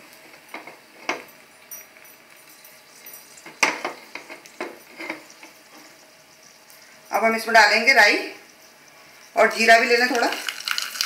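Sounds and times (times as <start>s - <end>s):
chillies sizzling in oil: 0.0s - 11.0s.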